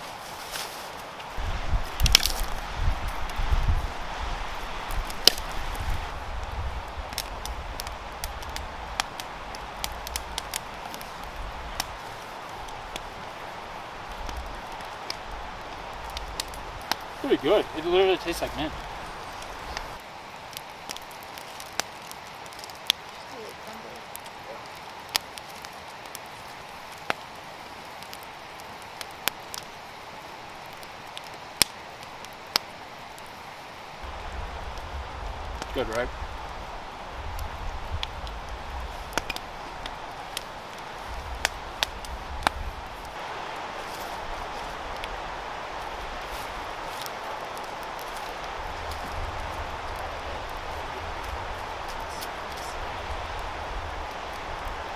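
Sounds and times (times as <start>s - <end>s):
campfire crackling: 0.0s - 54.9s
fire pops and snaps: 0.0s - 54.9s.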